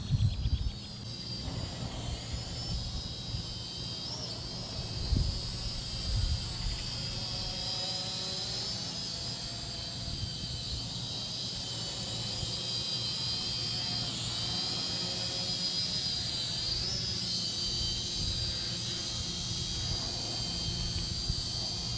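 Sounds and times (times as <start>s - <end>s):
drone propellers whining: 0.0s - 21.9s.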